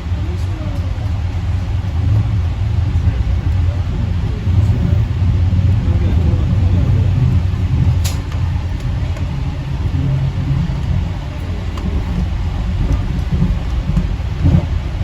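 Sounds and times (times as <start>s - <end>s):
train car rumbling on guideway: 0.0s - 15.0s.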